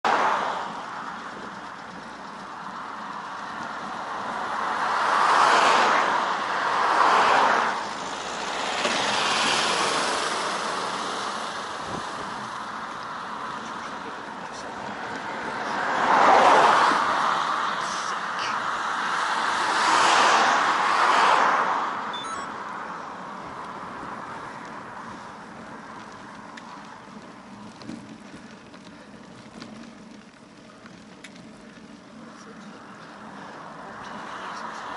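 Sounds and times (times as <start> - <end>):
car passing: 0.0 - 34.9
road rolling noise: 0.0 - 34.9
van passing: 0.0 - 34.9
wind: 0.0 - 34.9.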